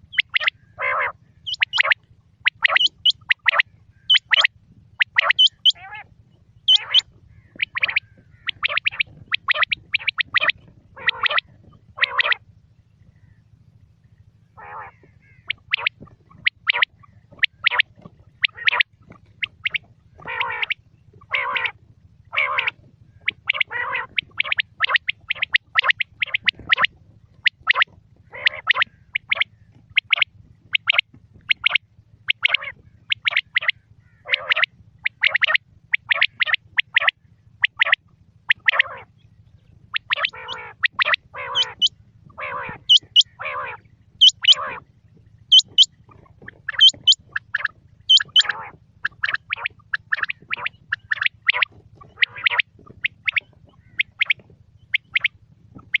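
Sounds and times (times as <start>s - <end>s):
quail calling: 0.0s - 13.5s, 14.1s - 56.0s
faint low hum: 0.0s - 56.0s.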